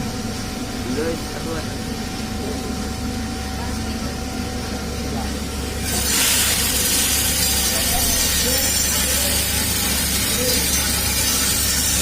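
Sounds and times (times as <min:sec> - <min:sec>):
coffee roasting machine hiss: 0:00.0 - 0:12.0.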